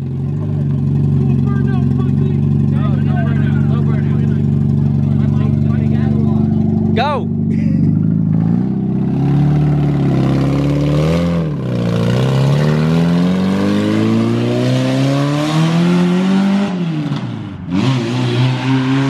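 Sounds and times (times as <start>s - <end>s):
loud car engine revving: 0.0s - 19.0s.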